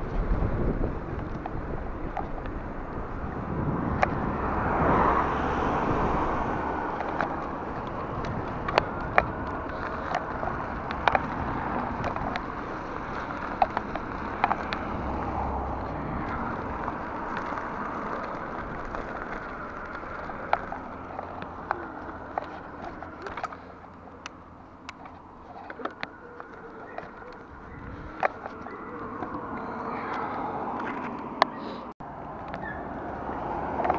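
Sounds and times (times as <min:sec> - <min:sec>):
bicycle tyres rolling on gravel: 0:00.0 - 0:33.9.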